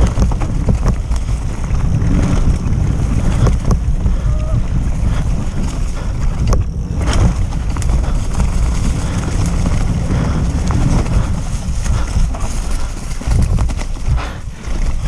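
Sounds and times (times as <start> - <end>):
bike rattling clicks: 0.0 - 15.0
tyres rumbling over ground: 0.0 - 15.0
wind buffeting microphone: 0.0 - 15.0.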